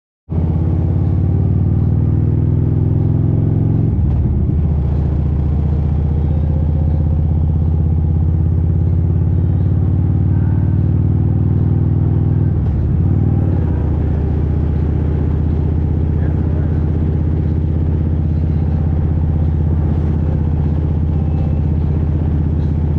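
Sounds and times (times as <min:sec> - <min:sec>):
motorcycle engine running: 0:00.3 - 0:22.9.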